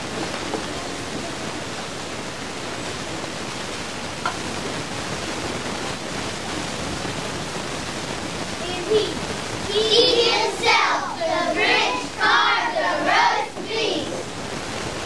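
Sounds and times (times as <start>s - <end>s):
faint crowd voices: 0.0s - 14.6s
rushing hiss: 0.0s - 15.0s.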